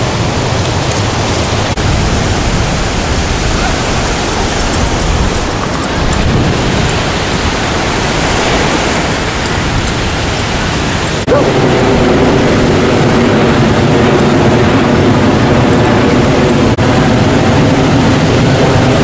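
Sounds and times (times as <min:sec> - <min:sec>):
ocean surf rushing: 0:00.0 - 0:19.0.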